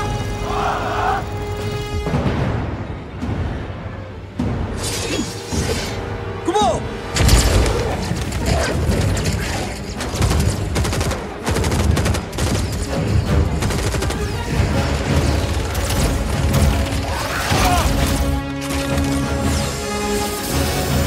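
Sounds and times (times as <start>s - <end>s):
orchestral film score: 0.0s - 21.0s.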